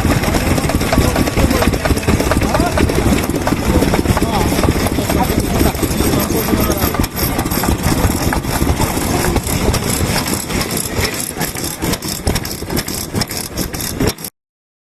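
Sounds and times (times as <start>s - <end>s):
stationary engine popping and knocking: 0.0s - 14.3s.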